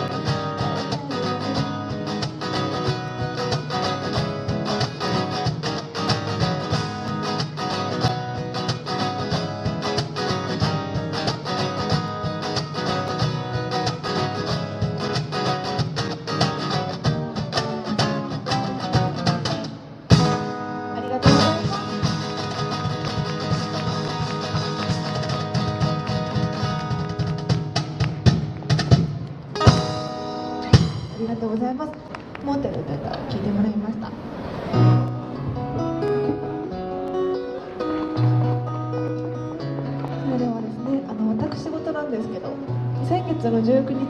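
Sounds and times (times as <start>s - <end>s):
live guitar strummed and picked: 0.0s - 32.4s, 34.5s - 44.0s.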